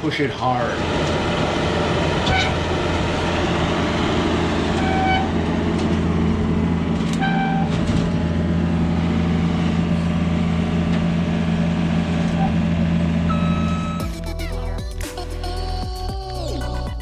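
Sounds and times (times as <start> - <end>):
skid steer engine running: 0.4 - 15.1.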